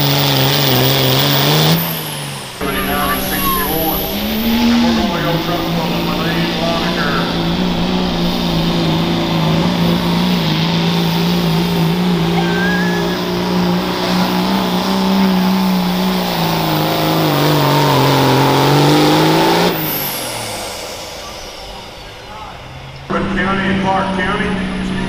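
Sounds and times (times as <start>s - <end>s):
diesel engine at full throttle: 0.0s - 25.0s.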